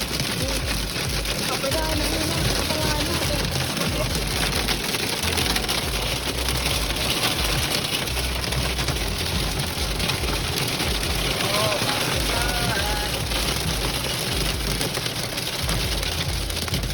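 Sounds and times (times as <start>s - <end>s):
heavy rain and hail pelting: 0.0s - 16.9s.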